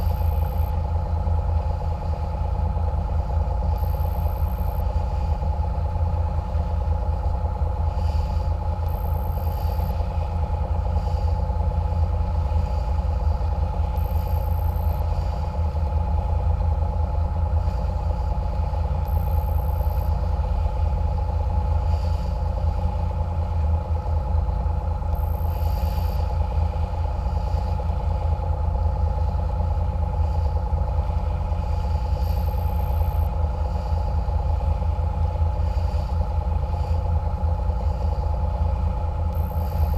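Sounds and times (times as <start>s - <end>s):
boat engines rumbling: 0.0s - 39.9s.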